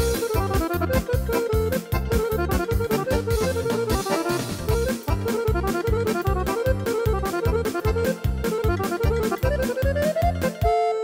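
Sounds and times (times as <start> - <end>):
keyboard folk-dance music: 0.0 - 11.0.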